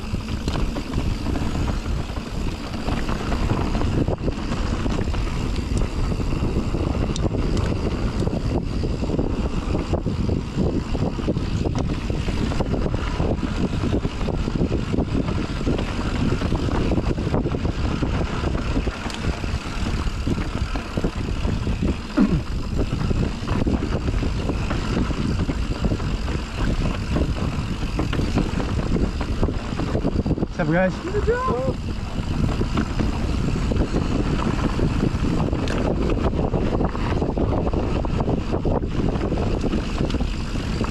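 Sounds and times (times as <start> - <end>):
bike rattling over rocks: 0.0 - 40.9
wind rush on microphone: 0.0 - 40.9.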